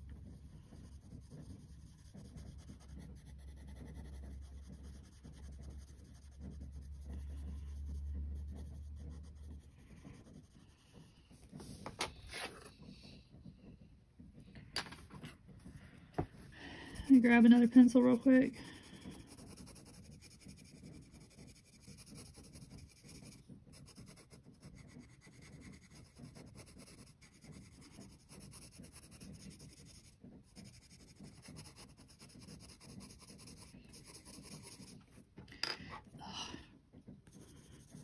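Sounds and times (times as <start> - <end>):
pencil scratching on paper: 0.0 - 12.8, 16.6 - 35.2, 37.2 - 38.0.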